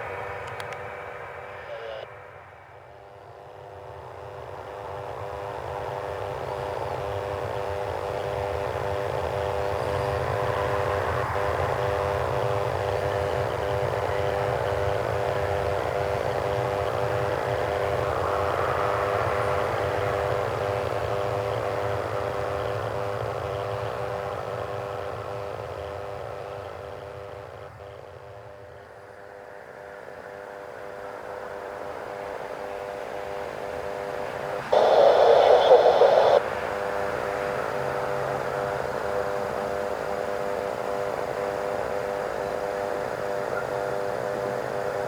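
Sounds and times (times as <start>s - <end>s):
aircraft engines droning: 0.0s - 45.0s.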